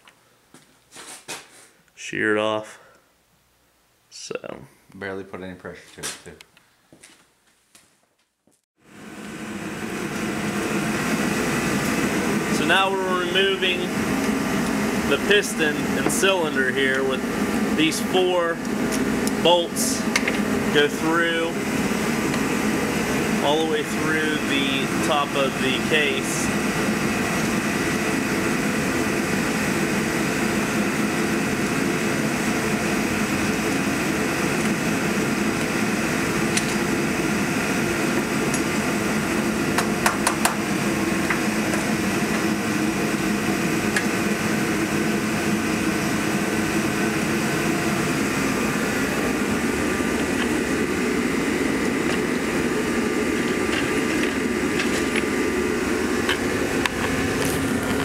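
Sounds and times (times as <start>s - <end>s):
steady mechanical drone: 8.8s - 58.0s.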